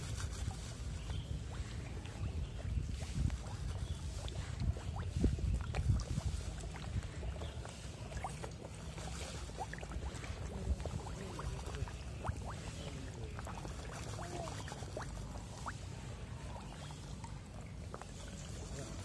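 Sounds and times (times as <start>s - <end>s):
fish plopping and slurping at surface: 0.0s - 19.0s.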